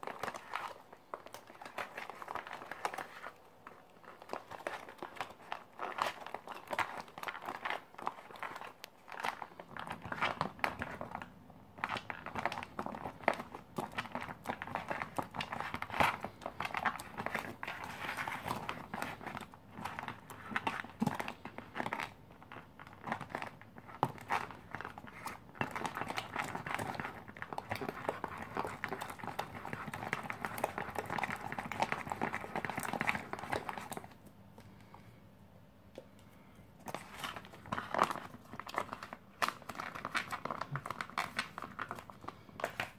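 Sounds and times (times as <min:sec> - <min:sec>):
spoon stirring food in pouch: 0:00.0 - 0:35.1, 0:35.9 - 0:42.9.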